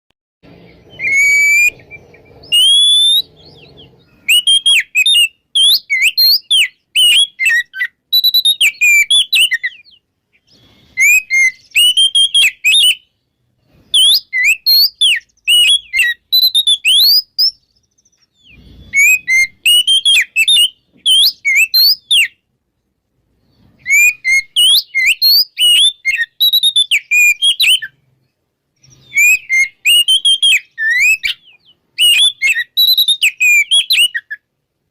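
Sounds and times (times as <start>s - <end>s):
bird singing whistled phrases: 0.5s - 22.5s, 23.8s - 28.0s, 28.8s - 34.5s.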